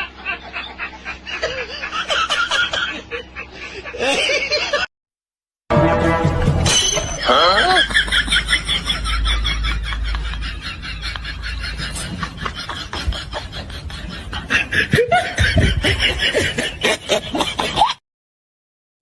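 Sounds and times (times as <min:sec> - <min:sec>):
laughter: 0:00.0 - 0:04.9, 0:07.2 - 0:18.0.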